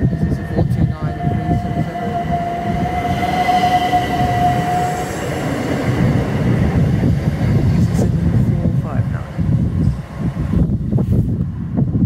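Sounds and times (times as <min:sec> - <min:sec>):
train coaches rumbling: 0:00.0 - 0:12.0.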